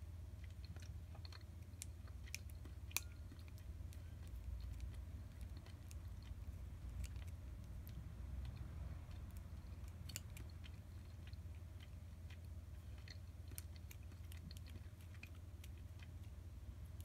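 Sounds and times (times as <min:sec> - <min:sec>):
faint chewing: 0:00.0 - 0:17.0
steady low hum: 0:00.0 - 0:17.0.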